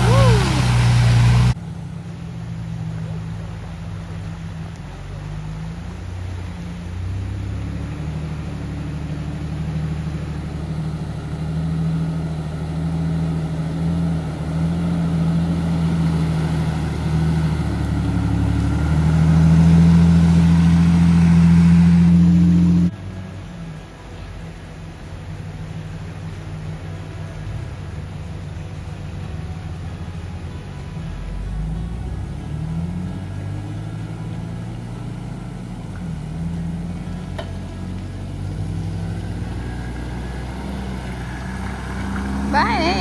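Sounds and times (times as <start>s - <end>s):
vehicle engine running under load: 0.0s - 43.0s.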